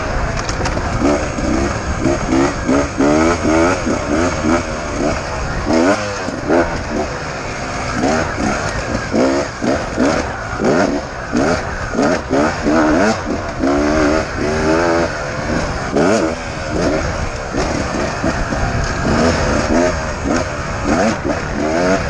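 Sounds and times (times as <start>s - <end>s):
motorcycle engine revving hard: 0.0s - 22.0s.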